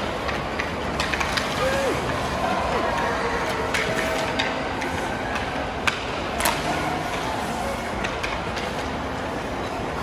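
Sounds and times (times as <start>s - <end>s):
hockey sticks and puck clacking: 0.0s - 10.0s.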